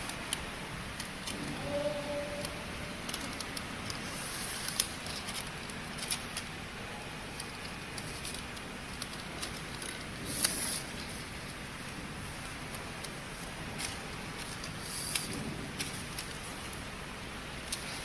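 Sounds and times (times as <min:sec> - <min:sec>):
labeling machine clicks and rustling: 0:00.0 - 0:06.6, 0:07.2 - 0:17.0, 0:17.6 - 0:18.0
steady hiss: 0:00.0 - 0:18.0.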